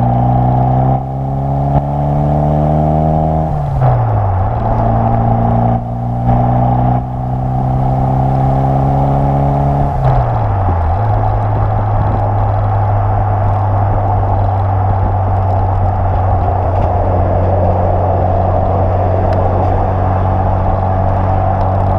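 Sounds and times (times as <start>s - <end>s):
car engine exhaust drone: 0.0s - 21.9s.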